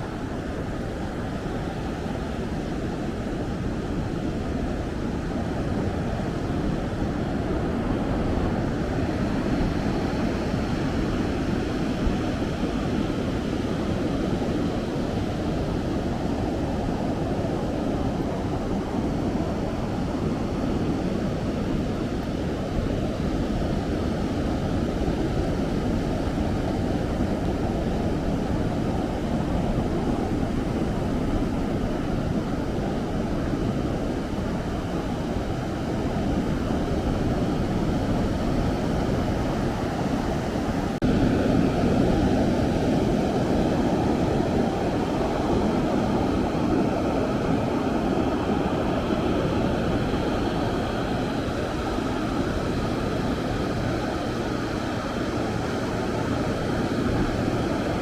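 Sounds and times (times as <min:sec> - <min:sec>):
ocean surf: 0:00.0 - 0:58.0
wind: 0:00.0 - 0:58.0.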